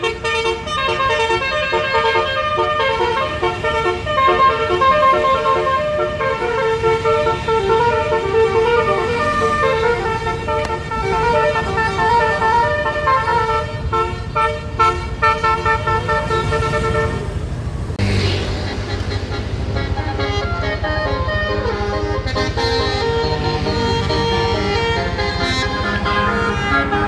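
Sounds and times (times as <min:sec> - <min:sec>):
multi-tone air horn melody: 0:00.0 - 0:17.4, 0:18.2 - 0:27.0
bus engine rumble: 0:00.0 - 0:27.0.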